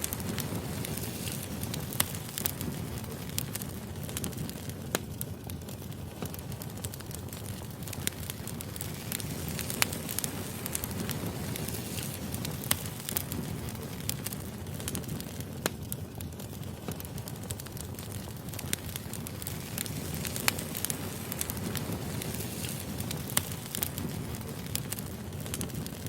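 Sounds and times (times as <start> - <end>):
flame rushing: 0.0 - 26.0
logs crackling and popping: 0.0 - 26.0.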